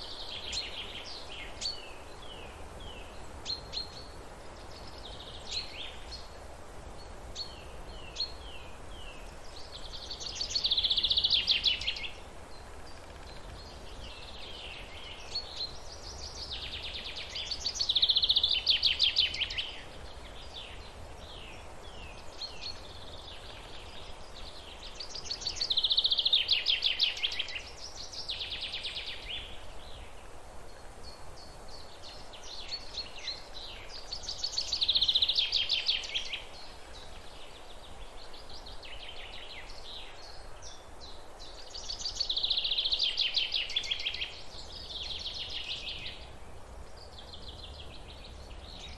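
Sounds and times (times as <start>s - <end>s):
quiet bird chirps: 0.0s - 48.9s
songbird singing with trill: 0.0s - 48.9s
steady background hiss: 0.0s - 48.9s.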